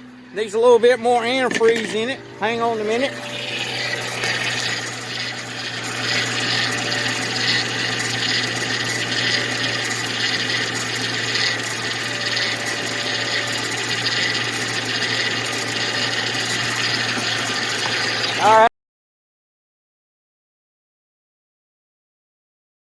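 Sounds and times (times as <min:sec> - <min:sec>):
steady high whine: 0:00.0 - 0:18.7.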